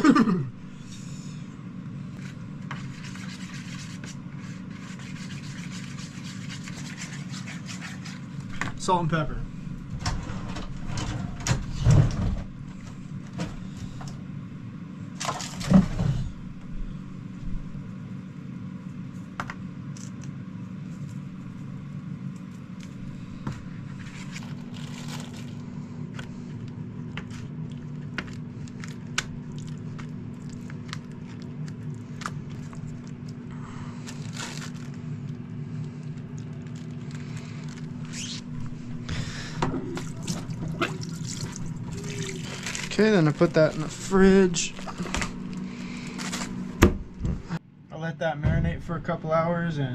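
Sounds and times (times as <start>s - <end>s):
electric fan humming: 0.0s - 49.9s.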